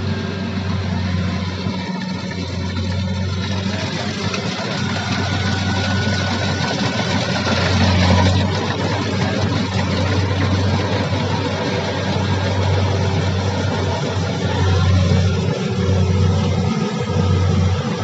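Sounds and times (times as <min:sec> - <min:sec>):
combine harvester diesel engine: 0:00.0 - 0:18.0.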